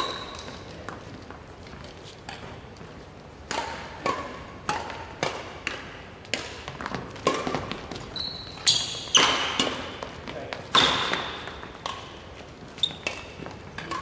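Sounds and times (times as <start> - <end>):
badminton rackets hitting shuttlecock: 2.2 - 14.0.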